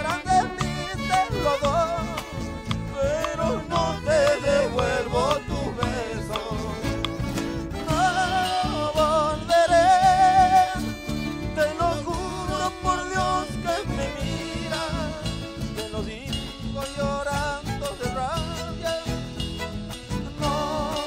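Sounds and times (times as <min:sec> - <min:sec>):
pulsing bass beat: 0:00.0 - 0:21.0.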